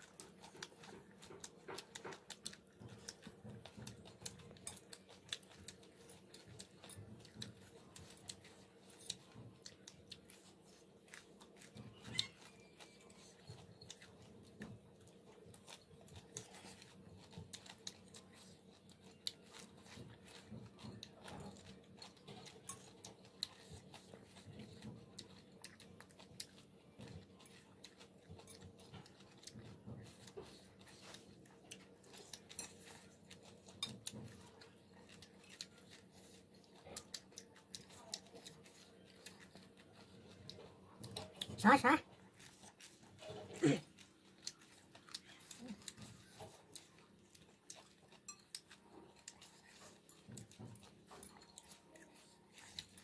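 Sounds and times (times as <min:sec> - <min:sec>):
quiet chewing and crunching: 0:00.0 - 0:53.0.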